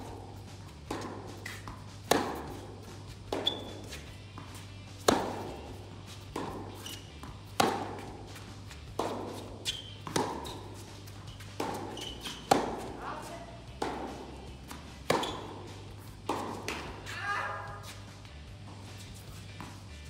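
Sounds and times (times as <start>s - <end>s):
racket hitting tennis ball: 0.0s - 20.0s
tennis ball bouncing: 0.0s - 20.0s.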